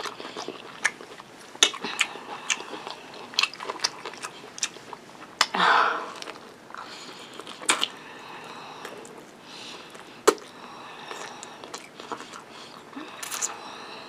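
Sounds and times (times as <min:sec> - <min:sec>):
wet chewing and lip smacks: 0:00.0 - 0:05.6, 0:06.2 - 0:08.0, 0:08.8 - 0:13.6.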